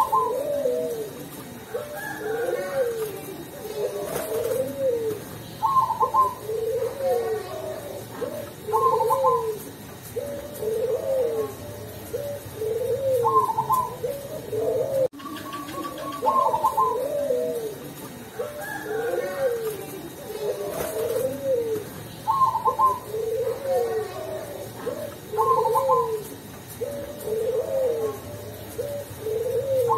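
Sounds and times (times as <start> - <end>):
dove cooing: 0.0 - 29.9.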